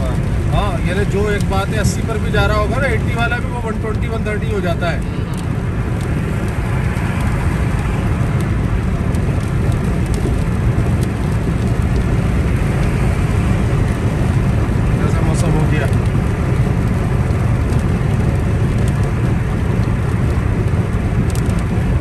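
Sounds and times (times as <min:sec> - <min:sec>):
rain ticking on windscreen: 0:00.0 - 0:22.0
tyre and road noise: 0:00.0 - 0:22.0.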